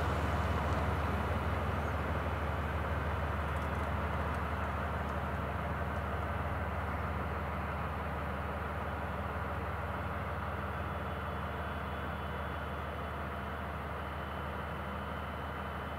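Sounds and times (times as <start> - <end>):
diesel locomotive droning: 0.0 - 15.9.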